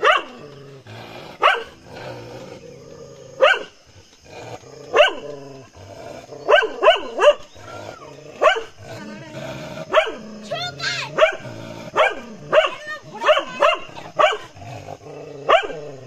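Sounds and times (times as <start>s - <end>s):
dog growling low: 0.0s - 16.0s
dogs barking aggressively: 0.0s - 16.0s.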